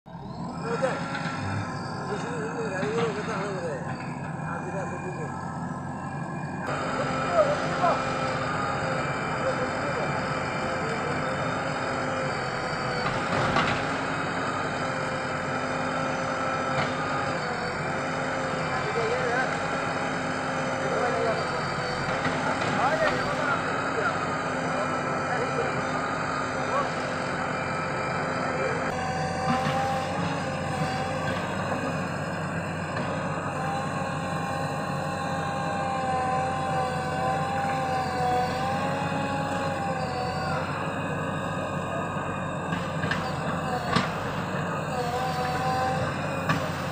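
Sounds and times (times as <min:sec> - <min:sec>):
backhoe diesel engine running: 0:00.0 - 0:46.9
steady whine: 0:00.1 - 0:46.9.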